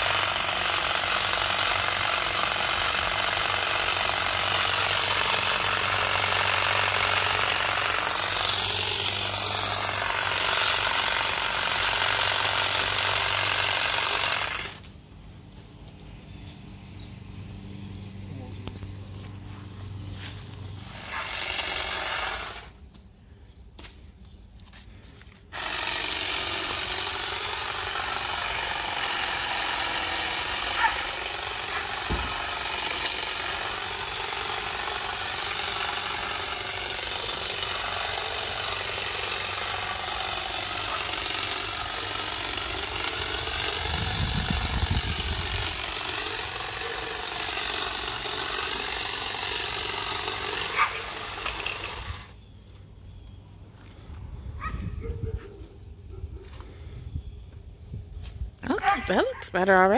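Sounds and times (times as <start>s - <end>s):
hedge trimmer cutting bush: 0.0s - 22.8s, 24.6s - 52.5s.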